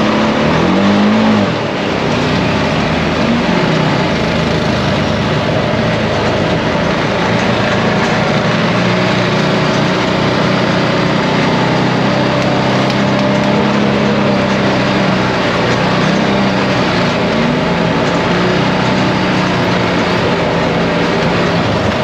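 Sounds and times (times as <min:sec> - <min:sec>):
atv engine running: 0:00.0 - 0:22.0
rushing noise: 0:00.0 - 0:22.0.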